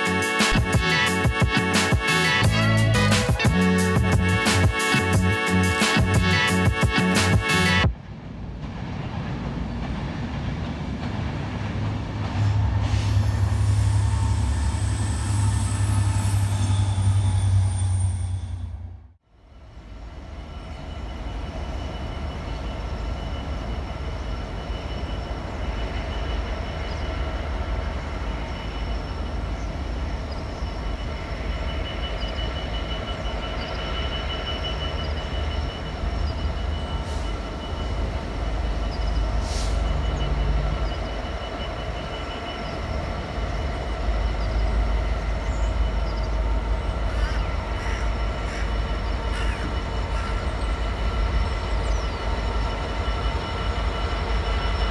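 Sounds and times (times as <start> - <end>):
diesel locomotive engine rumble: 0.0 - 54.9.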